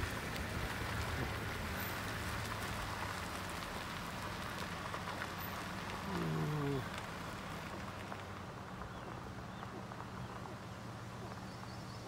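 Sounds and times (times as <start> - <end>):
gravel crunching under wheels: 0.0 - 12.0.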